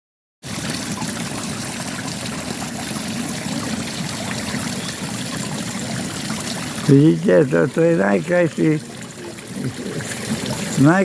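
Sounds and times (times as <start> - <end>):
water trickling over stones: 0.4 - 11.0.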